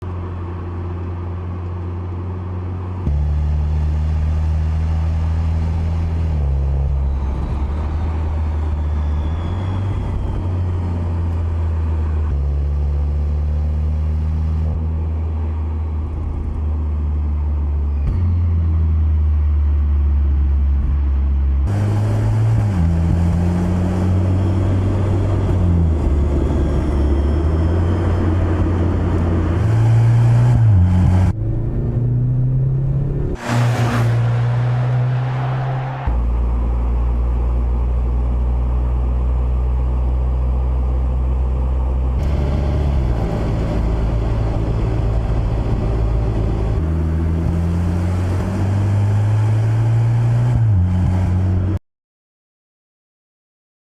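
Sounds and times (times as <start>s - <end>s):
loud car engine and exhaust: 0.0s - 51.8s.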